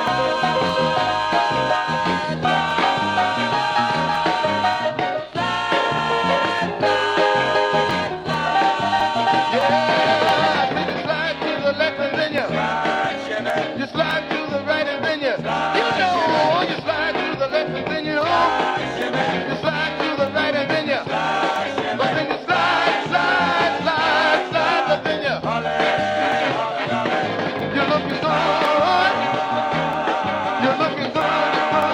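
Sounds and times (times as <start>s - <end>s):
rock and roll vocal group music: 0.0s - 31.9s.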